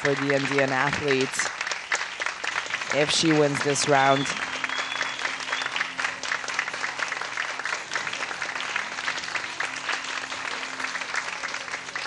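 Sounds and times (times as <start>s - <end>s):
spectators applauding: 0.0s - 12.0s.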